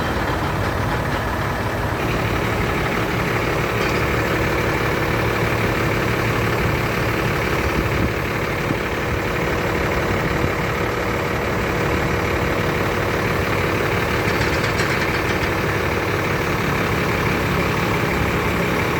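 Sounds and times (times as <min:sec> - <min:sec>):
diesel engine running low: 0:00.0 - 0:18.9.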